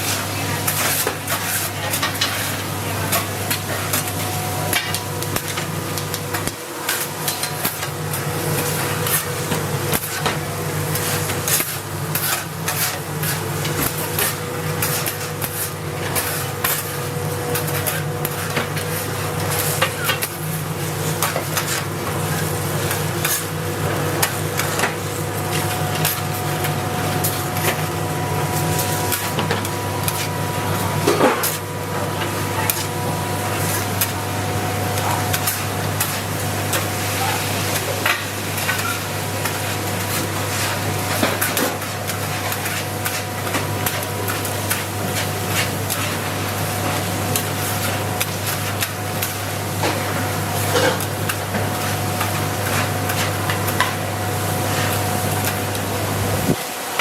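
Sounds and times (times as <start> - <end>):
food sizzling: 0.6 - 57.0.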